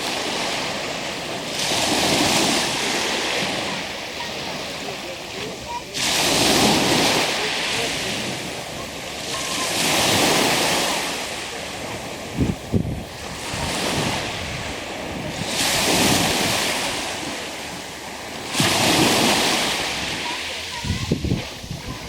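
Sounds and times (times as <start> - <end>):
waves surging onto beach: 0.0 - 22.0.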